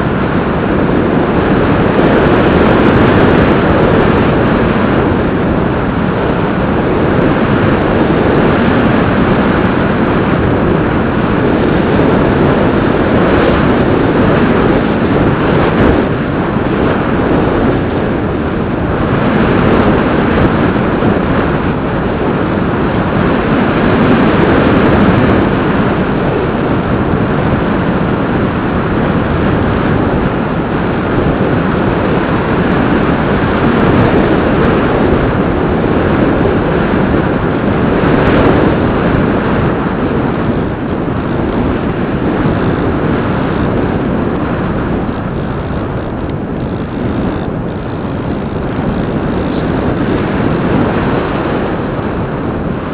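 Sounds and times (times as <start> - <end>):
airflow and propeller noise: 0.0 - 52.9.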